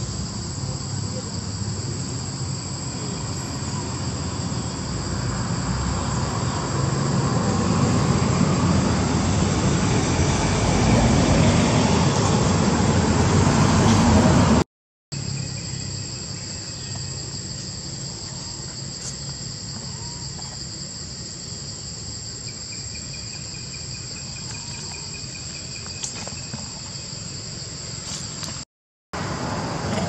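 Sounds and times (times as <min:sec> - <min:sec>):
high-pitched insect chorus: 0:00.0 - 0:12.5, 0:15.1 - 0:28.6
low rapid insect trill: 0:00.0 - 0:12.9, 0:15.1 - 0:28.6.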